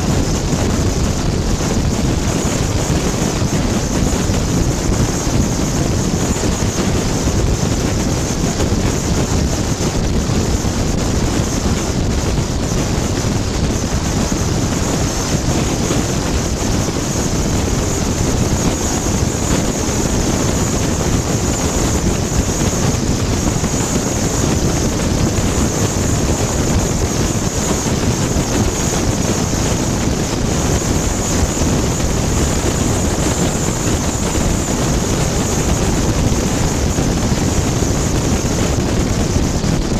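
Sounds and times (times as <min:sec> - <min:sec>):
car road noise rumble: 0:00.0 - 0:39.9
wind on microphone: 0:00.0 - 0:39.9.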